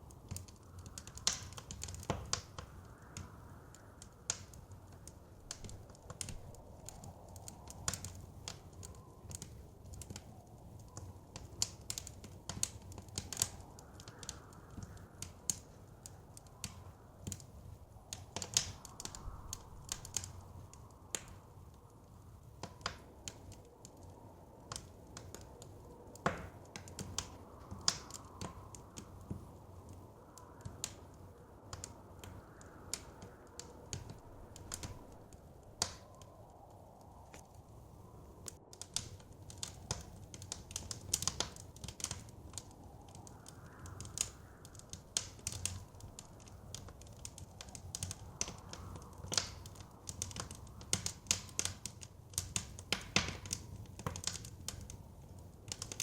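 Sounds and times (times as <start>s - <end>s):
blizzard wind rushing: 0.0s - 51.6s
wood fire crackling: 0.0s - 56.0s.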